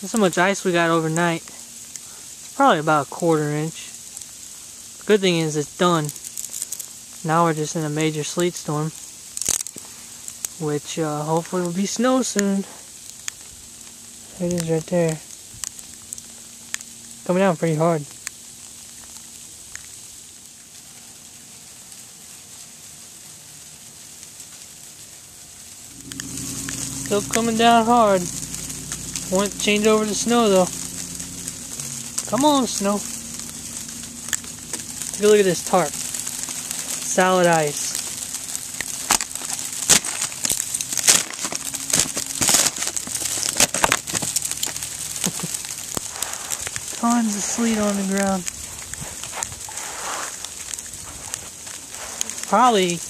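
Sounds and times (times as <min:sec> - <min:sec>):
sharp crackles: 0:00.0 - 0:53.0
sleet hissing on the ground: 0:00.0 - 0:53.0
ice pellets ticking: 0:04.0 - 0:22.6, 0:24.0 - 0:53.0.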